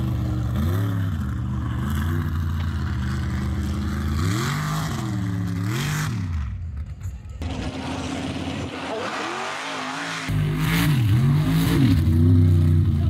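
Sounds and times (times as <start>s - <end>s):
truck engine revving: 0.0s - 6.6s, 7.4s - 13.0s.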